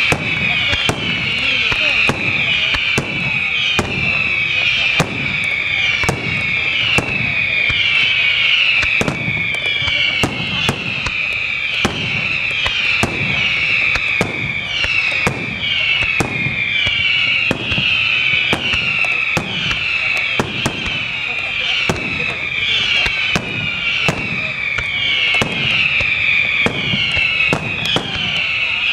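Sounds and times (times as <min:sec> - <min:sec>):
fireworks bursting: 0:00.0 - 0:28.9
high falling whistle: 0:00.0 - 0:28.9.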